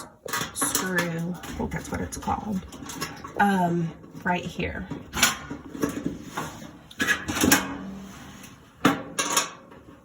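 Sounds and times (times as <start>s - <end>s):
clicks and knocks of parts: 0.0s - 4.2s, 4.8s - 7.9s, 8.8s - 10.0s.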